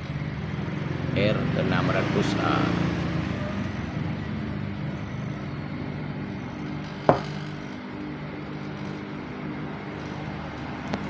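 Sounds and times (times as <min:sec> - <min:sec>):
compressor motor humming: 0:00.0 - 0:11.0.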